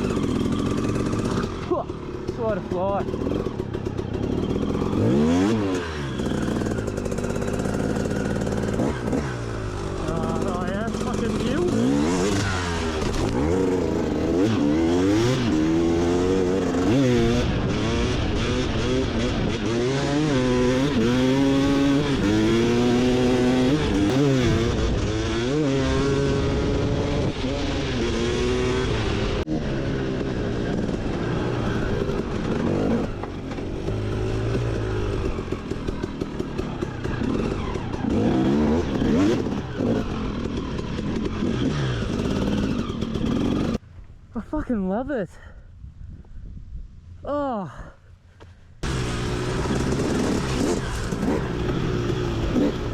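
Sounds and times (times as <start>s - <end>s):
motorbike engine revving: 0.0s - 43.8s, 48.8s - 52.9s.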